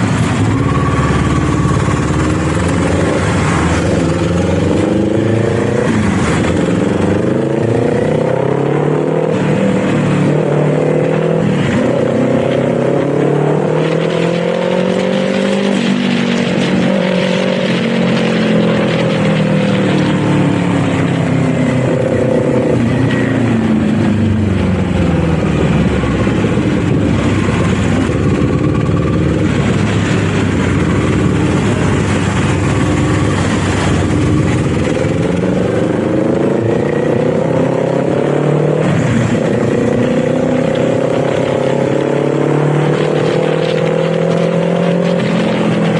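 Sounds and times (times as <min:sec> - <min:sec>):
motorcycle engine accelerating: 0:00.0 - 0:45.9
wind and road noise: 0:00.0 - 0:45.9.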